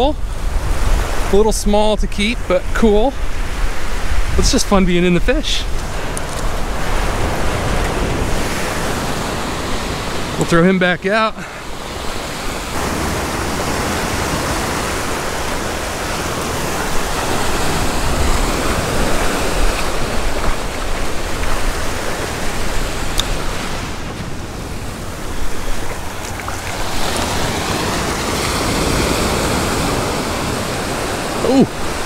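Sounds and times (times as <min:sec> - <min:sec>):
wind rumble on microphone: 0:00.0 - 0:10.4, 0:11.9 - 0:32.0
surf breaking on beach: 0:00.0 - 0:32.0.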